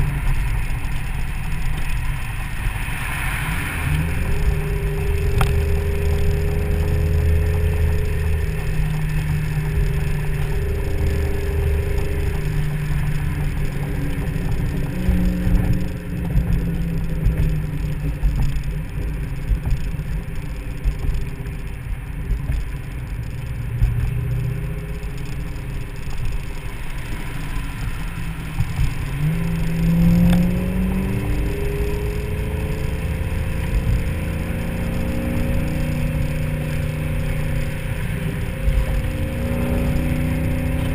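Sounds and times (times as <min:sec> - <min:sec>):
car engine at speed: 0:00.0 - 0:40.9
wind noise: 0:00.0 - 0:40.9.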